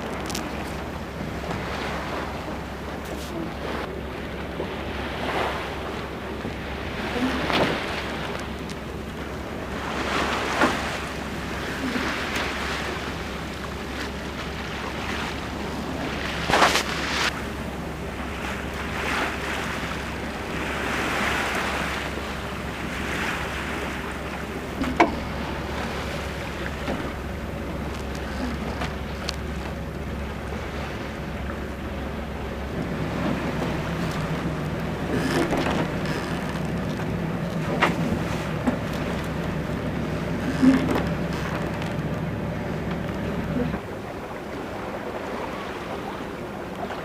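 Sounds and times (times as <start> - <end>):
water splashing along a hull: 0.0 - 47.0.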